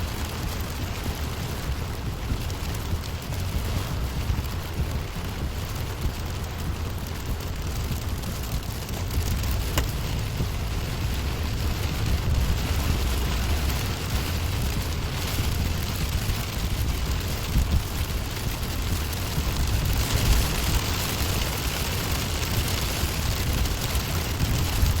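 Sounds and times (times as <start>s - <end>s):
rain patter on car: 0.0s - 25.0s
tyre and engine rumble: 0.0s - 25.0s.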